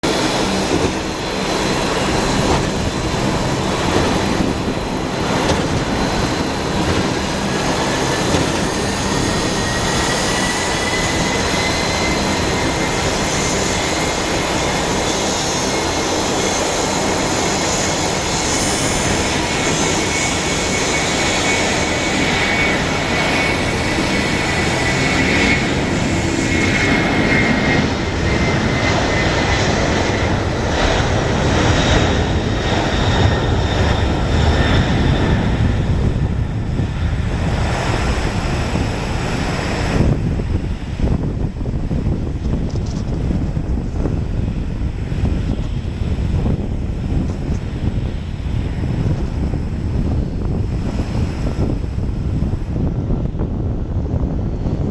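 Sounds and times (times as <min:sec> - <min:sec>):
jet engines at takeoff thrust: 0:00.0 - 0:54.9
jet fan whine: 0:00.0 - 0:54.9.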